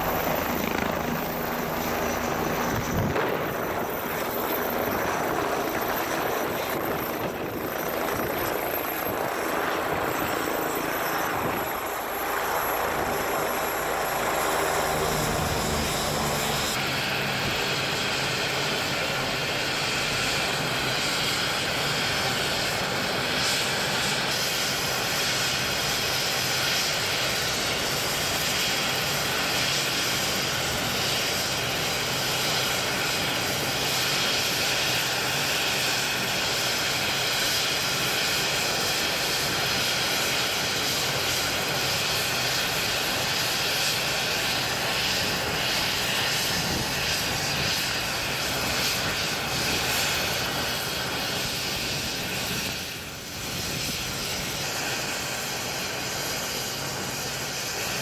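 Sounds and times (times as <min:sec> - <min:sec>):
faint turbine whine: 0:00.0 - 0:58.0
helicopter rotor and engine rush: 0:00.0 - 0:58.0.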